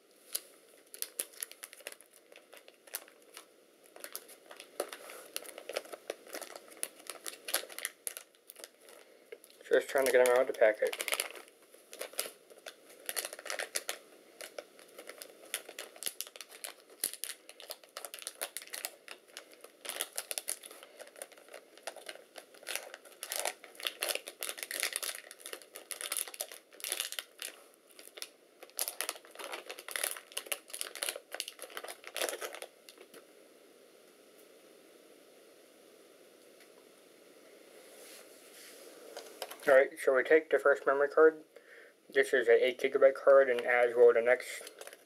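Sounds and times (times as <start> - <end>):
packaging crackling and rustling: 0.2 - 33.2, 39.0 - 39.8, 42.7 - 45.0.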